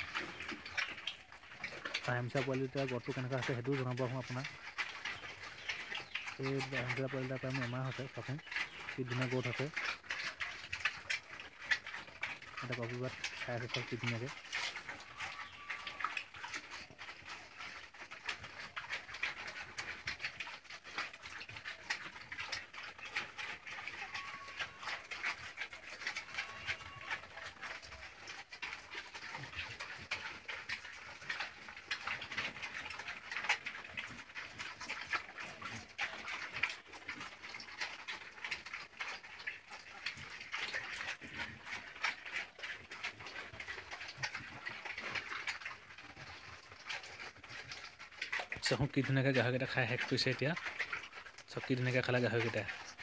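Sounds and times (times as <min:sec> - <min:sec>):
pigs crunching cabbage: 0:00.0 - 0:53.0.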